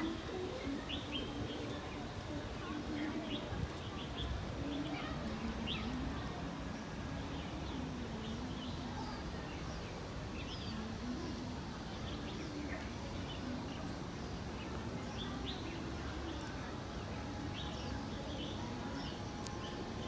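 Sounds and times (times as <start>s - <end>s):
faint distant voices: 0.0s - 20.0s
small birds chirping: 0.0s - 20.0s
steady background noise: 0.0s - 20.0s.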